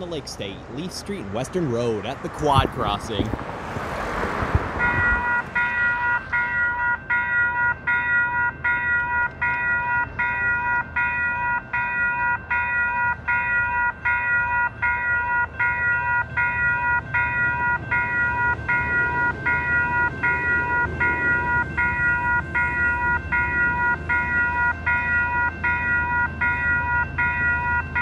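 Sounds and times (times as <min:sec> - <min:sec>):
railroad crossing warning bells: 0:04.8 - 0:28.0.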